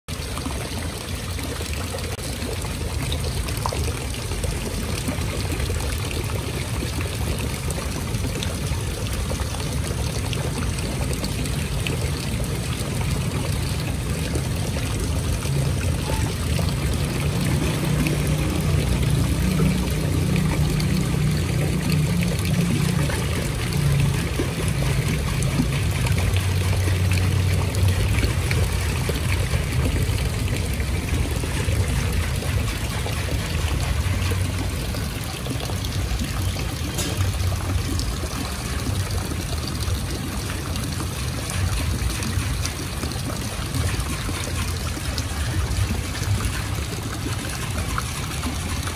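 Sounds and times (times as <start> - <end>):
water trickling into pond: 0.0 - 48.9.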